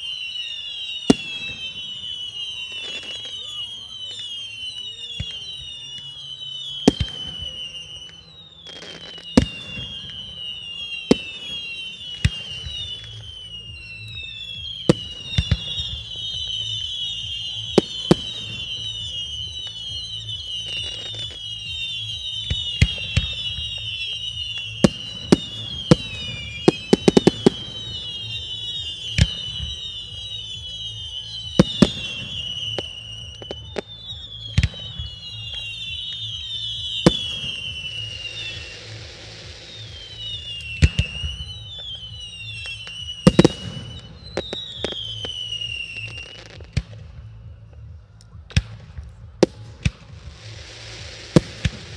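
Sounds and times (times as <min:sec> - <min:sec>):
fireworks bursting with bangs: 0:00.0 - 0:51.9.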